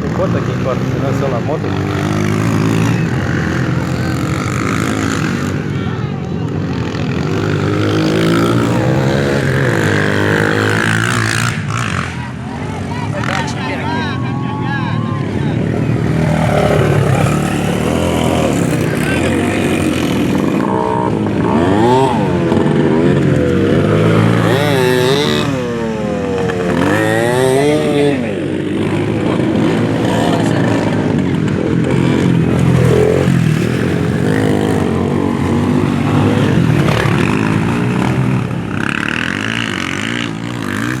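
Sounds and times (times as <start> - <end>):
racing motorcycle engines revving: 0.0 - 41.0.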